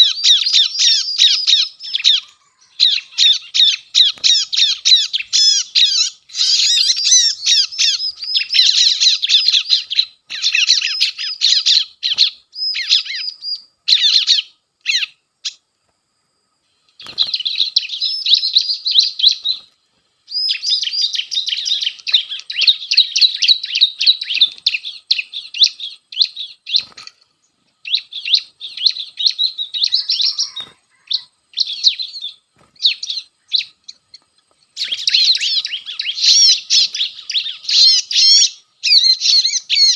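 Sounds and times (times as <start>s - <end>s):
bird distress call high chirps: 0.0s - 15.7s, 16.6s - 39.9s.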